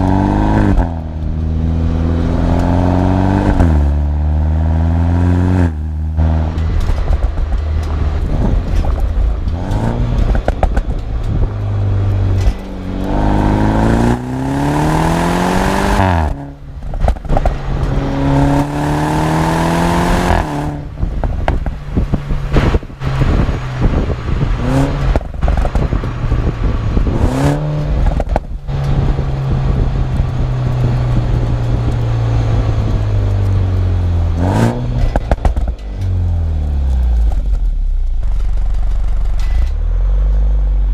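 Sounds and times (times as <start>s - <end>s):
car engine revving: 0.0s - 40.9s
exhaust pops and crackles: 0.0s - 40.9s.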